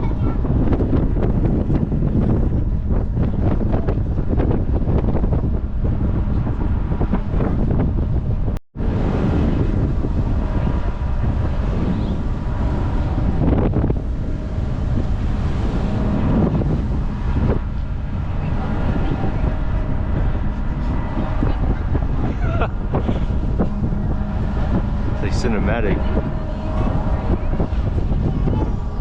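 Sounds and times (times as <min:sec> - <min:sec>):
ferry engines droning: 0:00.0 - 0:29.0
wind buffeting microphone: 0:00.0 - 0:29.0.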